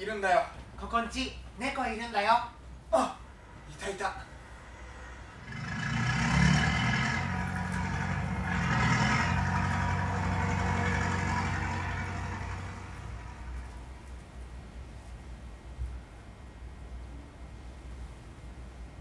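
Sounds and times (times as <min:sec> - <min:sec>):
engine-like rumble with hiss: 0:00.0 - 0:19.0.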